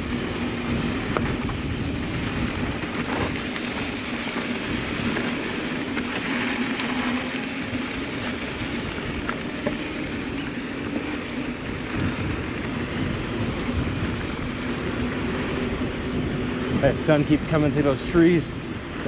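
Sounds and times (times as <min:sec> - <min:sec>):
bike tyre and drivetrain noise: 0:00.0 - 0:19.0
wind on microphone: 0:00.0 - 0:19.0.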